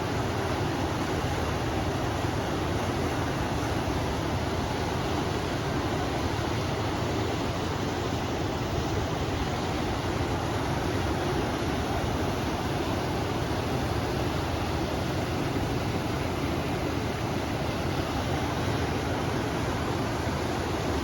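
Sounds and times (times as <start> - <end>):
river water flowing: 0.0 - 21.0
wind: 0.0 - 21.0.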